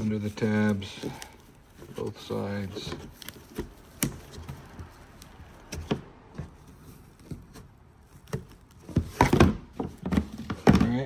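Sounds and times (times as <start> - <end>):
soft rustling: 0.0 - 10.7.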